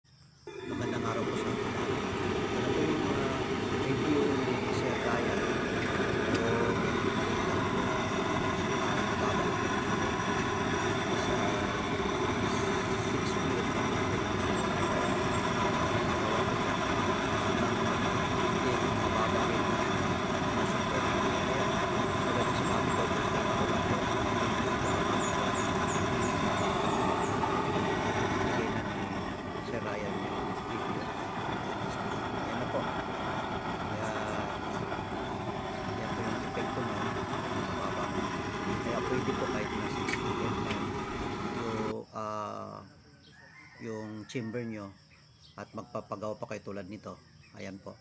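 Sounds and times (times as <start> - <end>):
oil stove burner rushing: 0.3 - 42.9.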